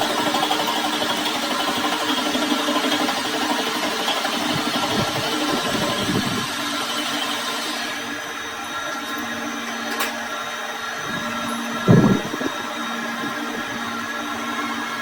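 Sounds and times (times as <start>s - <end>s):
electric machine motor humming: 0.0s - 15.0s.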